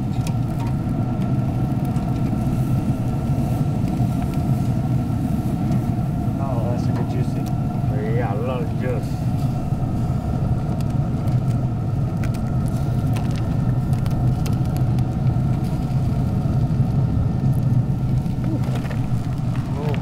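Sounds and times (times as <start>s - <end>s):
low machine rumble: 0.0s - 20.0s.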